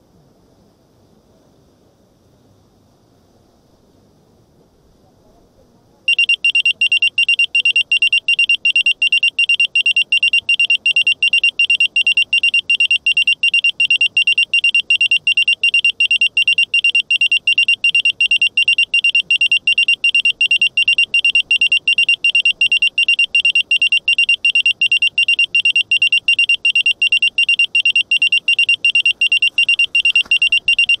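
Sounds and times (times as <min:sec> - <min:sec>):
high electronic buzzer beeps: 0:06.1 - 0:31.0.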